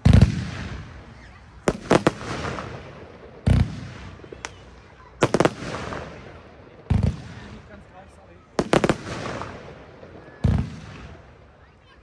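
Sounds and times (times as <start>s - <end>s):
firework sharp bangs: 0.0s - 7.8s, 8.6s - 11.4s.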